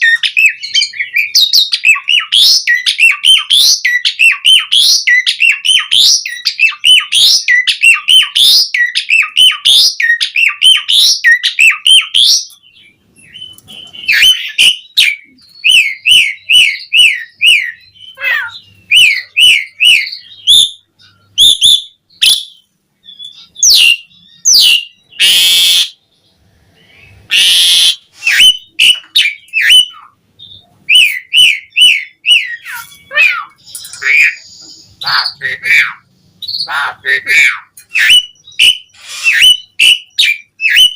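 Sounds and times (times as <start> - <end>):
bird harsh rasping calls: 0.0 - 26.0, 26.8 - 30.2, 30.9 - 40.9
starling chirping song: 0.0 - 40.9.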